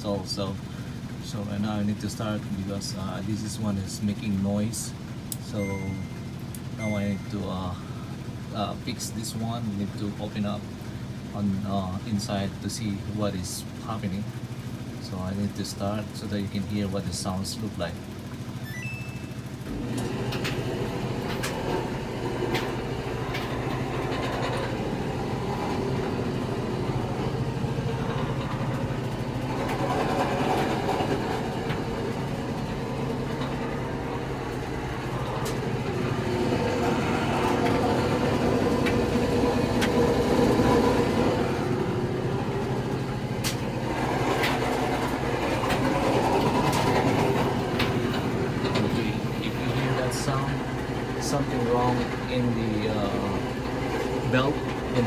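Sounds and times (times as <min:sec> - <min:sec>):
clothes dryer rumbling: 0:00.0 - 0:55.0.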